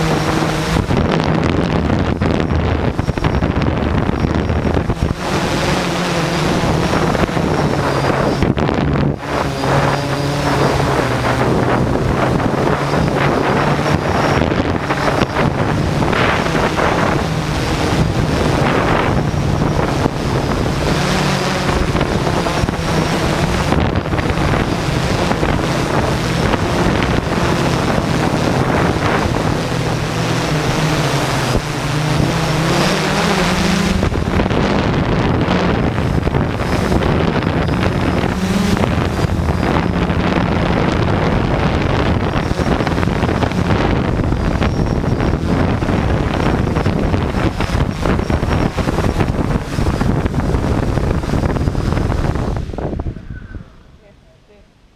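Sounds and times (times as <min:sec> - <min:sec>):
drone motors buzzing: 0:00.0 - 0:54.0
wind on microphone: 0:00.0 - 0:54.9.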